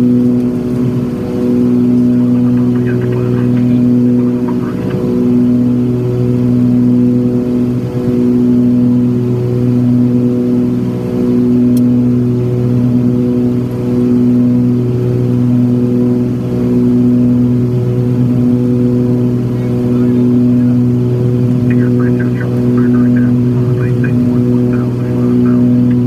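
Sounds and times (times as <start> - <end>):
twin propeller engines droning: 0.0 - 26.0.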